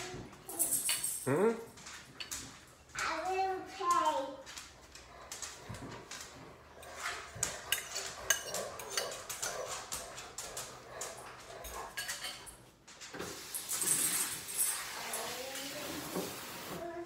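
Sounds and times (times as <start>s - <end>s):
utensils and dishes clinking: 0.0s - 2.9s, 4.9s - 16.8s.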